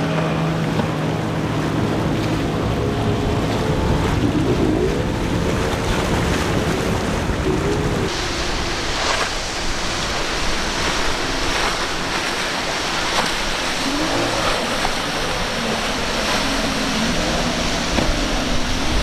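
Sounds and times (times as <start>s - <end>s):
faint outboard engine: 0.0s - 19.0s
rushing surf: 0.0s - 19.0s.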